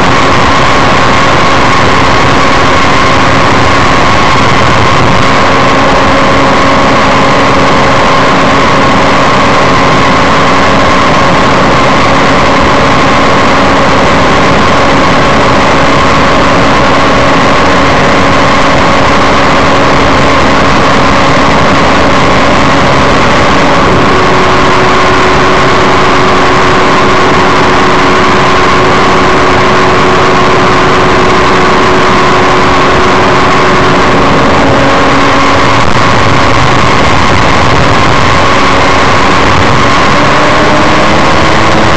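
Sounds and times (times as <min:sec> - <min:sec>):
aircraft engine and propeller: 0:00.0 - 0:41.9
dense rushing noise: 0:00.0 - 0:41.9.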